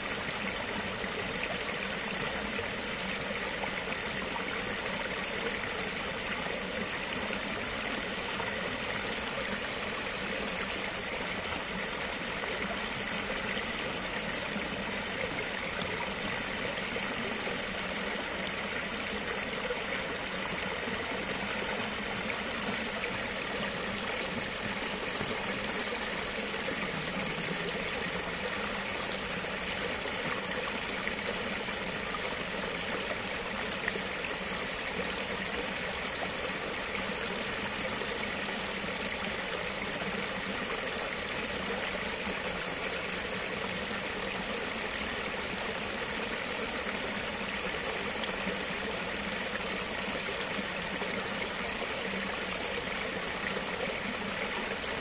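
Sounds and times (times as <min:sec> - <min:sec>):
brook water flowing: 0:00.0 - 0:55.0.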